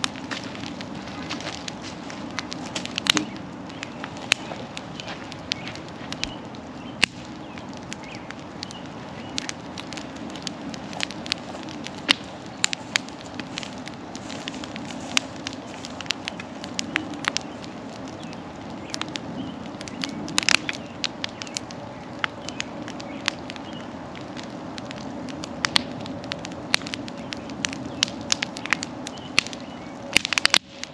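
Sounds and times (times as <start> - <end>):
bonfire crackling: 0.0 - 30.9
burning logs popping: 0.0 - 30.9
fire low rush: 0.0 - 30.9.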